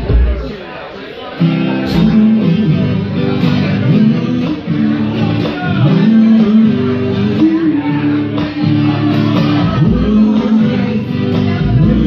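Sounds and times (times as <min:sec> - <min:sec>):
acoustic guitar strumming: 0:01.3 - 0:12.0.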